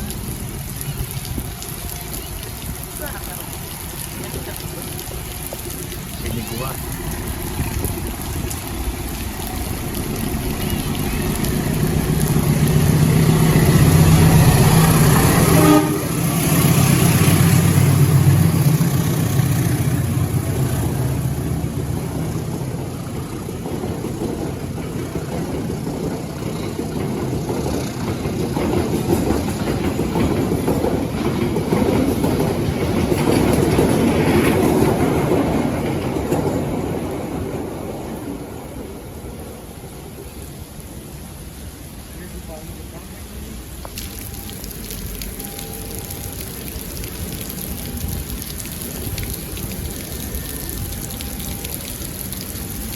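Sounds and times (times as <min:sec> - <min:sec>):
diesel locomotive engine drone: 0:00.0 - 0:52.9
train wheels on rails: 0:00.0 - 0:52.9.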